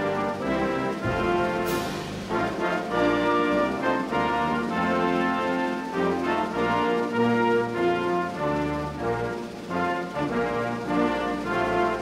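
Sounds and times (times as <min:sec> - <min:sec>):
brass-led orchestral music: 0:00.0 - 0:12.0.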